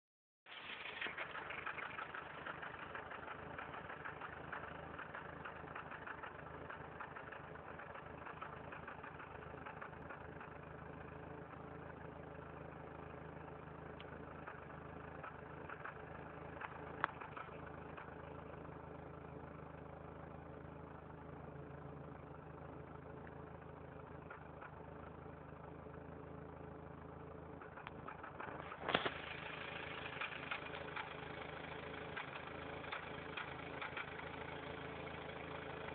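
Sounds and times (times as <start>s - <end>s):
engine idling roughly: 0.5s - 35.9s.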